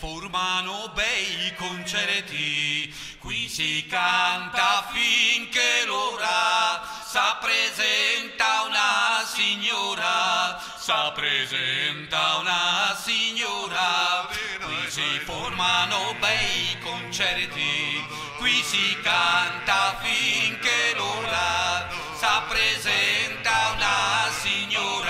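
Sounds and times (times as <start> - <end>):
folk singing voices: 0.0 - 25.0.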